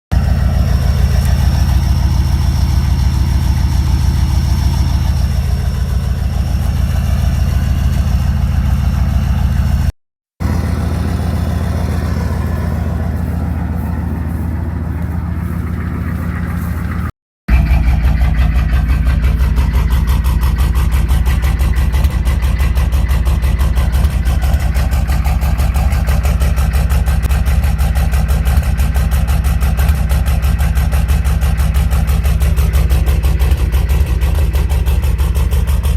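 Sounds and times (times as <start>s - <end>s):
pickup engine idling: 0.1s - 35.9s.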